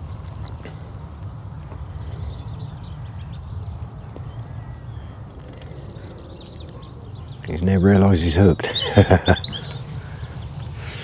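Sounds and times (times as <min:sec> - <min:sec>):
birds calling: 0:00.0 - 0:11.0
steady low rumble: 0:00.0 - 0:11.0.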